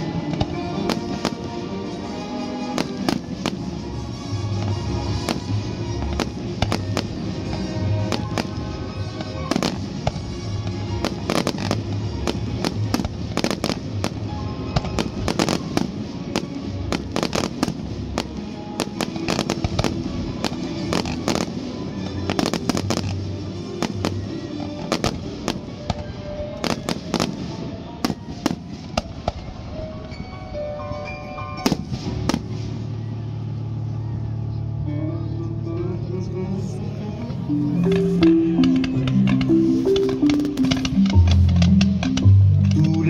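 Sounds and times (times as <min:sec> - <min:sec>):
fireworks bangs and crackles: 0:00.0 - 0:30.4, 0:31.6 - 0:33.8, 0:37.8 - 0:43.0
music playing: 0:00.0 - 0:43.0.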